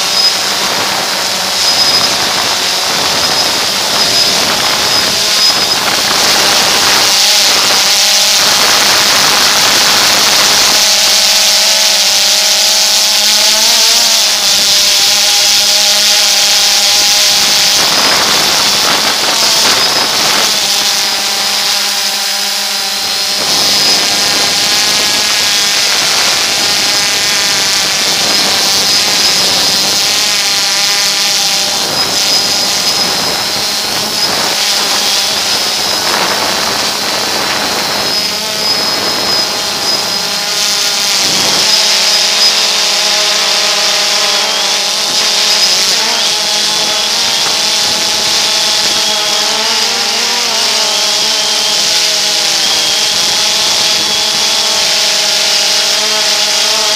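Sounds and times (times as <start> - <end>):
drone propellers whining: 0.0 - 56.9.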